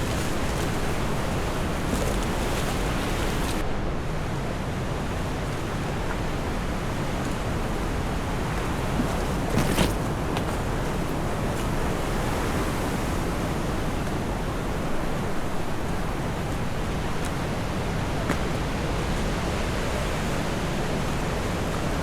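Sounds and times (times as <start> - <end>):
ocean surf: 0.0 - 22.0
wind: 0.0 - 22.0.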